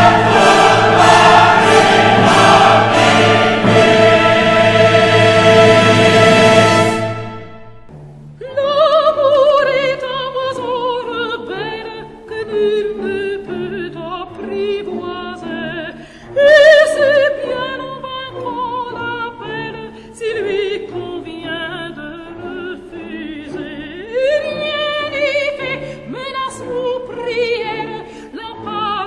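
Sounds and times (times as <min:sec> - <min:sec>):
soft orchestral accompaniment: 0:00.0 - 0:29.0.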